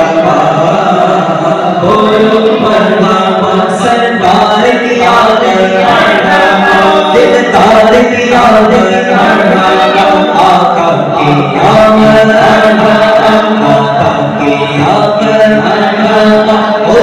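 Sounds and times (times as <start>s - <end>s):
men chanting through microphones: 0.0s - 17.0s.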